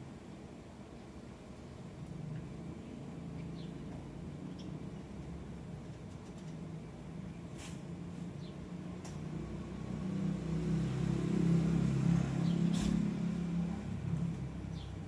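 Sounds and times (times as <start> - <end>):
car engine rumble passing by: 2.2 - 15.0.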